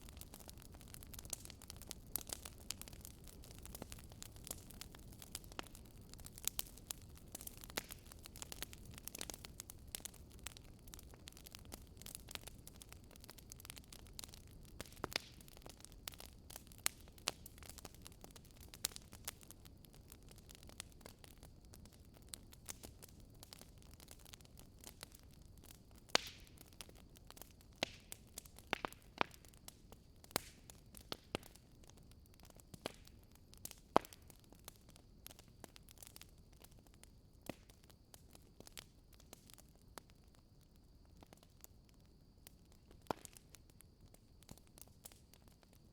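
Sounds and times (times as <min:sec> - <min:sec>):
wood fire crackling: 0:00.0 - 0:45.8.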